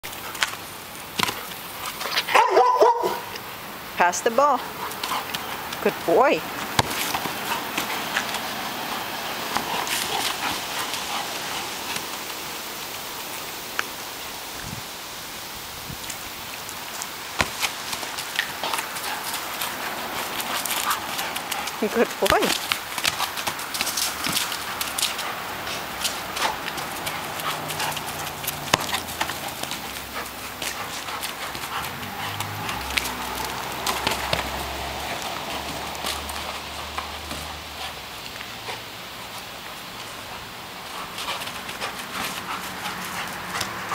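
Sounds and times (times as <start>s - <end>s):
outdoor hiss: 0.0s - 43.9s
ball and paws tapping: 0.1s - 3.5s, 4.8s - 12.3s, 17.0s - 38.8s, 40.8s - 43.9s.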